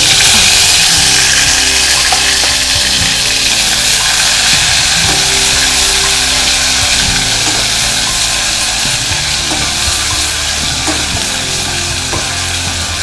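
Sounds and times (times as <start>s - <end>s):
hot oil sizzling in a pot: 0.0s - 13.0s.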